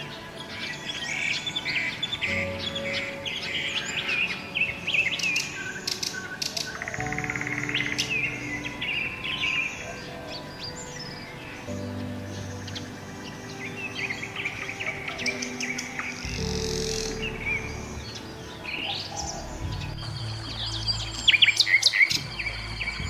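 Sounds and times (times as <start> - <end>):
small birds chirping: 0.0 - 23.0
soft background music: 0.0 - 23.0.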